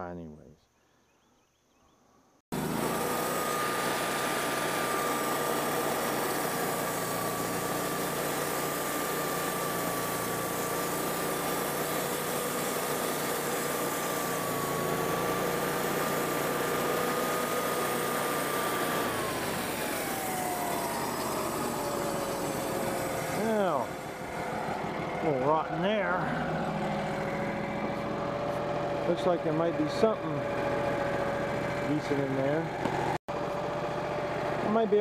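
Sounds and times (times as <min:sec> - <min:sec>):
sawmill engine running: 0:02.5 - 0:35.0
band blade sawing through log: 0:02.6 - 0:33.0.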